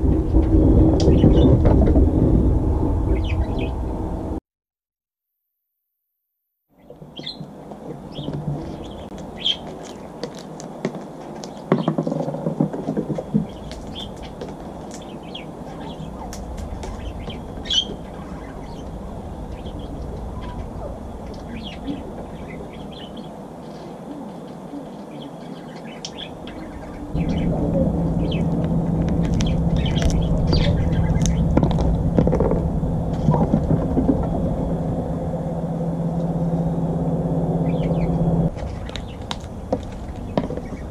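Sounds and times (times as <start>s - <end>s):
low mechanical hum: 0.0s - 4.4s, 6.8s - 40.9s
small birds chirping: 3.1s - 3.8s, 6.8s - 40.9s.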